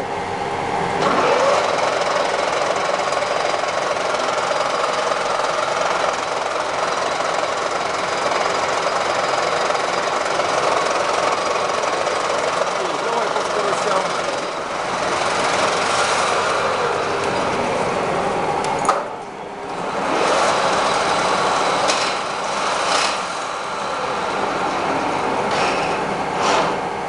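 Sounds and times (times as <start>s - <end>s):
lathe running with hum: 0.0s - 27.0s.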